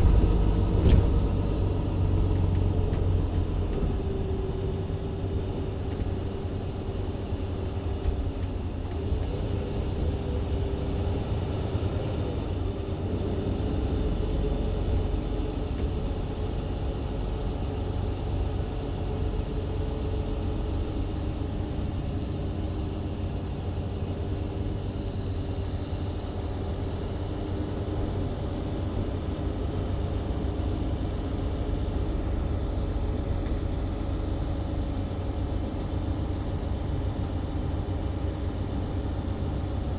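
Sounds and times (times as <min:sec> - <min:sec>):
bus engine rumble with whine: 0:00.0 - 0:39.9.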